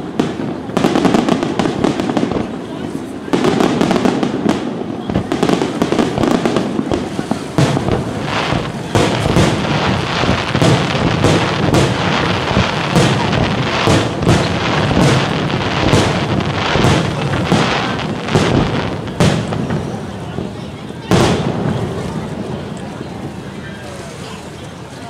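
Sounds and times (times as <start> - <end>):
fireworks launching and bursting: 0.0 - 23.4.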